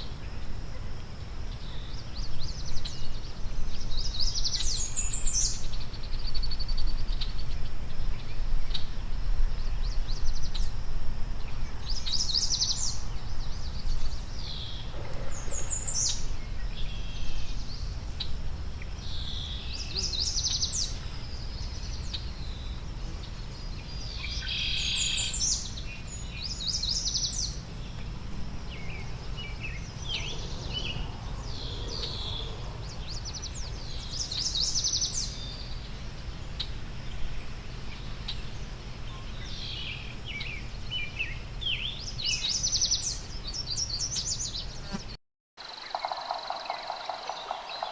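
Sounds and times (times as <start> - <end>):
bird chirping: 1.5 - 10.8, 11.4 - 47.9.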